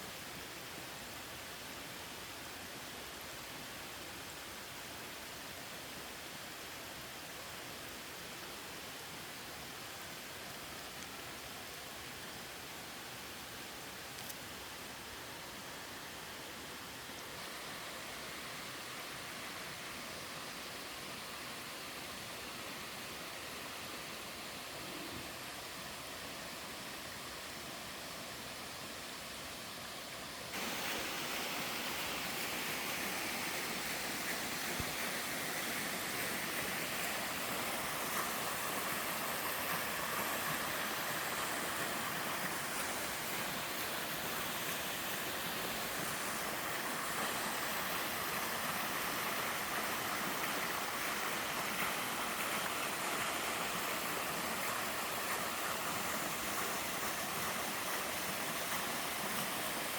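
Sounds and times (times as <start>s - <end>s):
waterfall and stream rushing: 0.0s - 59.9s.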